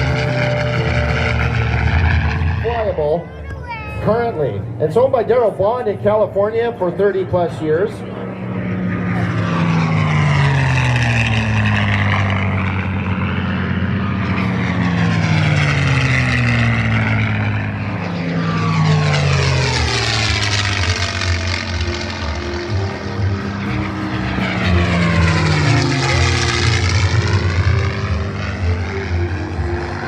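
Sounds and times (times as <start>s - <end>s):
propeller plane flying by: 0.0s - 30.0s.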